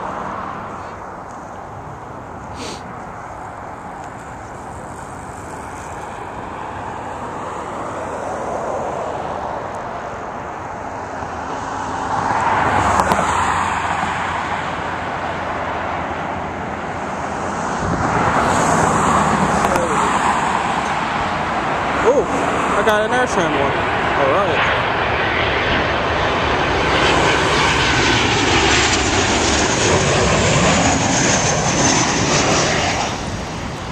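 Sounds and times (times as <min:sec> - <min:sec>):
jet airliner engine noise: 0:00.0 - 0:33.9
passing road traffic: 0:00.0 - 0:33.9.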